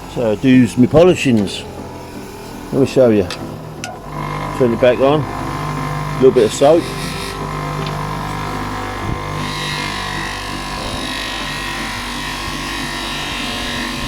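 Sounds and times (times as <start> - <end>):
electric polishing machine humming: 0.0 - 14.0.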